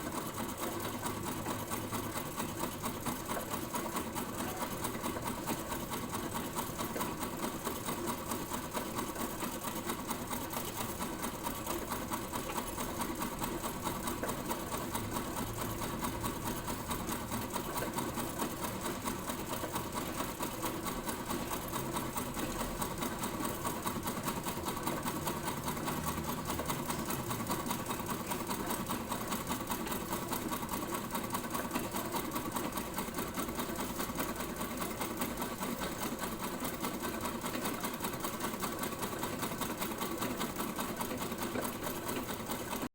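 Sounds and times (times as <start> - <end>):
sewing machine running: 0.0 - 42.9.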